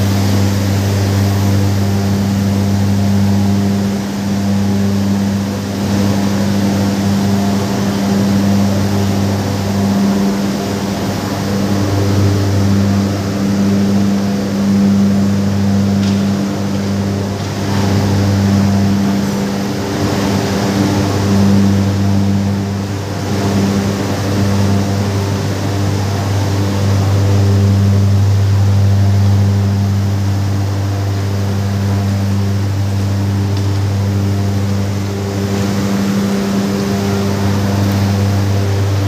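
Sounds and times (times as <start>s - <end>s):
heavy factory machinery drone: 0.0s - 39.0s.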